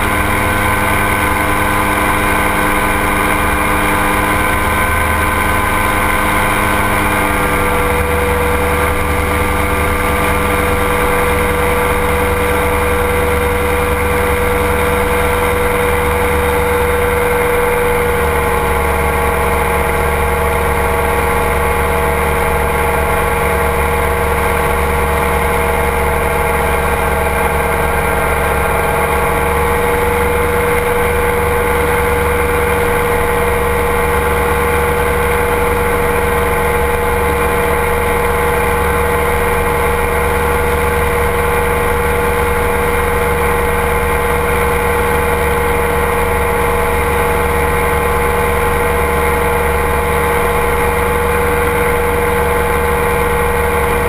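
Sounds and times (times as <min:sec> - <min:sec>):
aircraft engine droning: 0:00.0 - 0:54.0.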